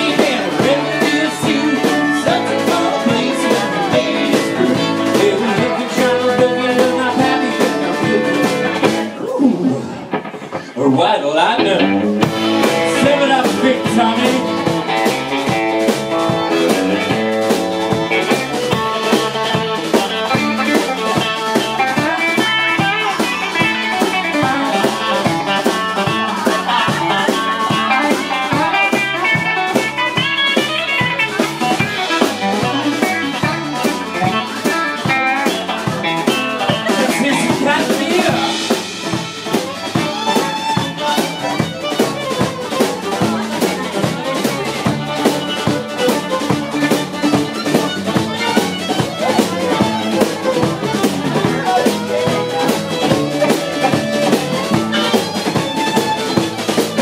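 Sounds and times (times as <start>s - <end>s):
fiddle: 0.0s - 9.2s, 10.0s - 57.0s
steady drum beat: 0.0s - 10.8s, 11.6s - 57.0s
electric guitar: 0.0s - 57.0s.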